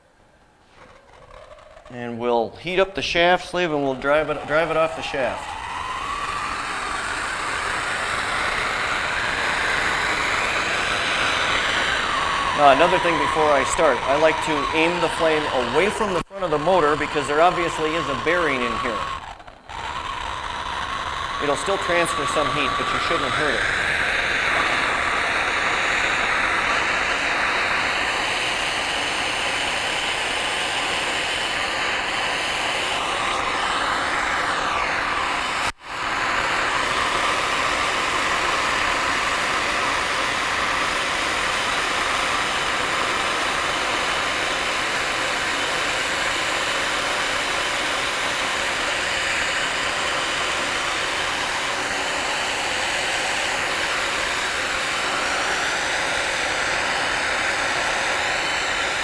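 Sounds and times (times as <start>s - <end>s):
gas torch hissing: 0.7s - 59.0s.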